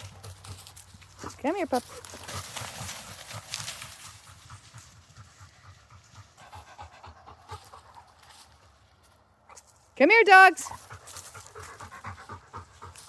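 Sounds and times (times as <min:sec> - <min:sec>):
dog panting: 0:00.0 - 0:08.6, 0:10.6 - 0:13.0.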